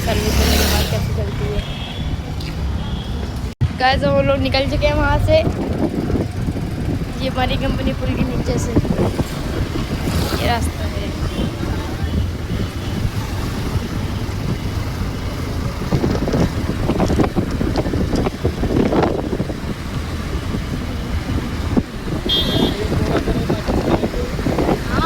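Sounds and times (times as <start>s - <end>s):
wind buffeting microphone: 0.0s - 25.0s
motorcycle engine running: 3.6s - 25.0s.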